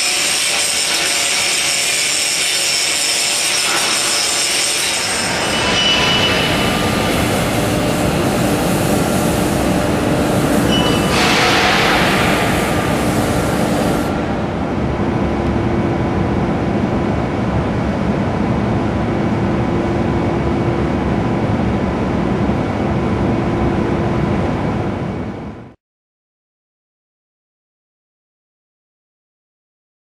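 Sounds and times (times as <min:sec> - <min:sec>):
factory machinery rumble: 0:00.1 - 0:25.8.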